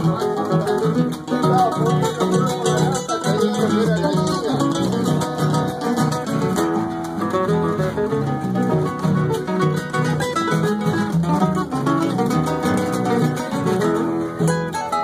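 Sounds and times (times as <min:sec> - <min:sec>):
classical guitars playing: 0:00.0 - 0:15.0.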